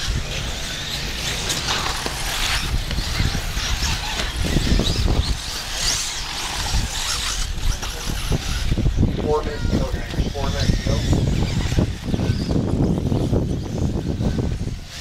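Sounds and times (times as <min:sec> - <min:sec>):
rc cars whirring past: 0:00.0 - 0:15.0
wind rumble on microphone: 0:00.0 - 0:15.0.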